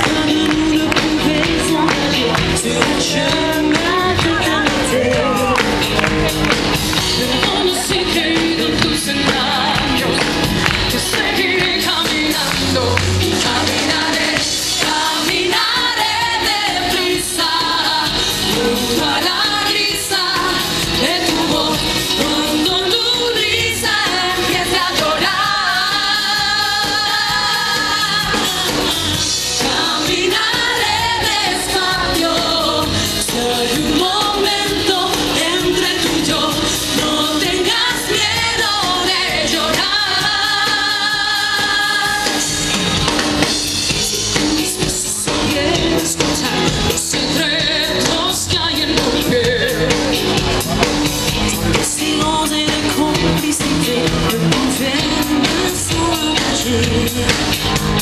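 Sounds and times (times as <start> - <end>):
women singing a duet: 0.0 - 5.9, 6.9 - 43.6, 44.3 - 58.0
band with drums: 0.0 - 58.0.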